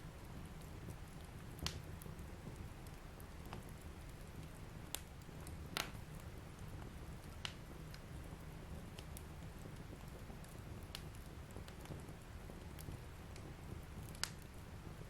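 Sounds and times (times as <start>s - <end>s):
fire crackles and pops: 0.0s - 15.0s
flames rushing: 0.0s - 15.0s.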